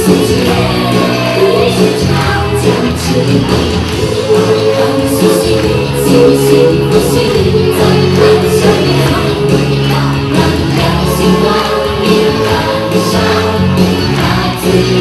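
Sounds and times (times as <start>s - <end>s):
loud music with singing: 0.0s - 15.0s.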